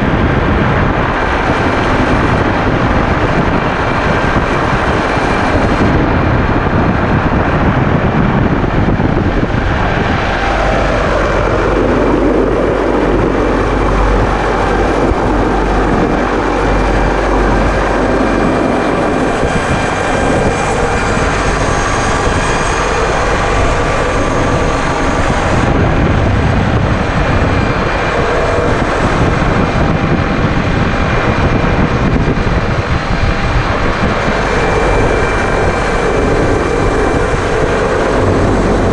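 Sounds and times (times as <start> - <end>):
helicopter turbine and rotor noise: 0.0 - 38.9.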